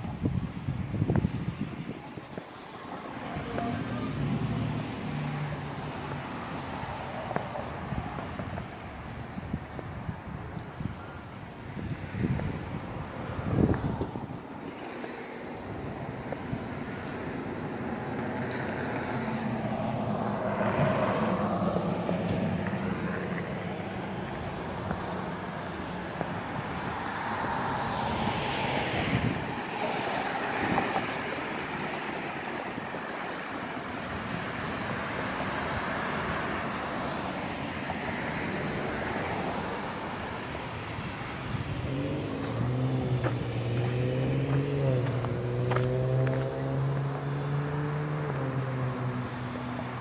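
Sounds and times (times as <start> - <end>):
cars passing by: 0.0 - 50.0.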